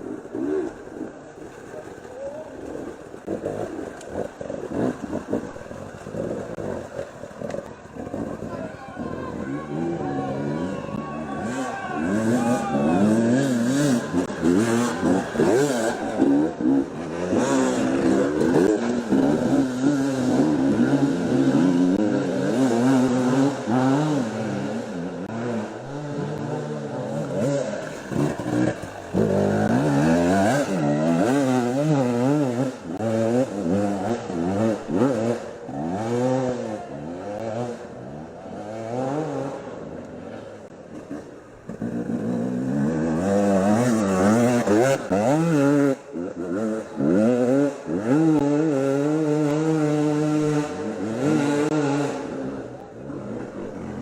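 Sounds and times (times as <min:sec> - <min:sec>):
two-stroke motorcycle engines revving: 0:00.0 - 0:54.0.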